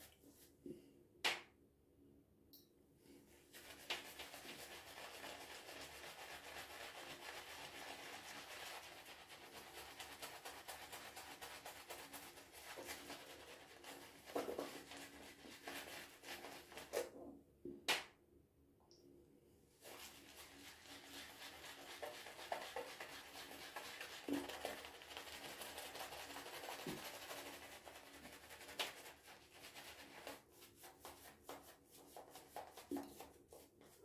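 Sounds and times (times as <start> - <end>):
shaving brush rubbing lather: 3.5 - 17.0, 19.8 - 34.0.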